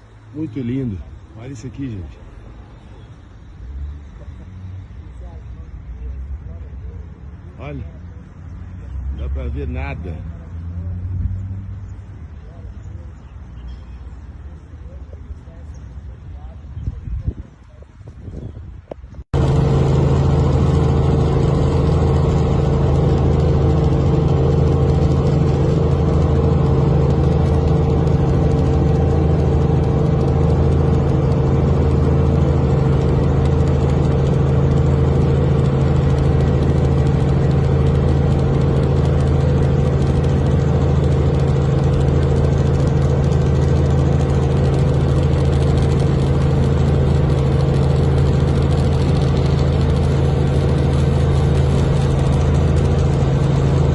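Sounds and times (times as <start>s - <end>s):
loud low drone: 0.0s - 17.3s, 19.3s - 53.9s.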